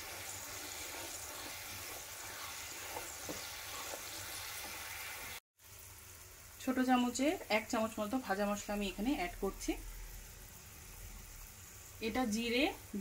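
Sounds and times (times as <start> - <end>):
chutney bubbling and sizzling: 0.0 - 13.0.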